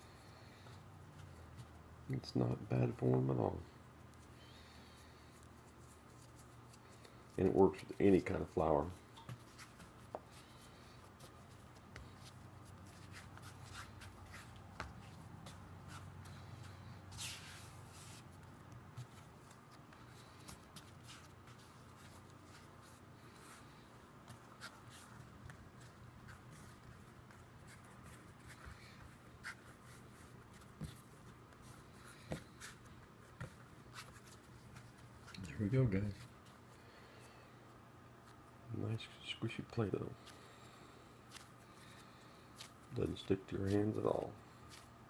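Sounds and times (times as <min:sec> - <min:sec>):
hands kneading play dough: 0:00.0 - 0:36.9, 0:37.7 - 0:45.0.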